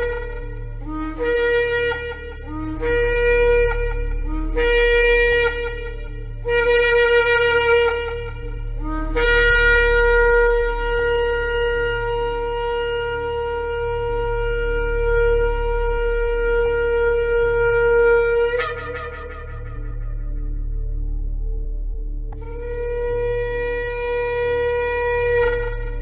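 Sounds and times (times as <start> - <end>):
shofar blasts: 0.0 - 21.2, 22.4 - 26.0
steady low hum: 0.0 - 26.0.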